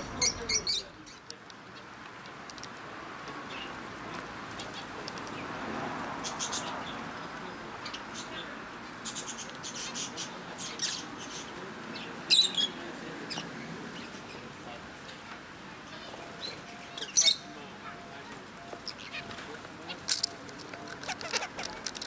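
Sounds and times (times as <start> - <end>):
small birds chirping and squawking: 0.0 - 22.0.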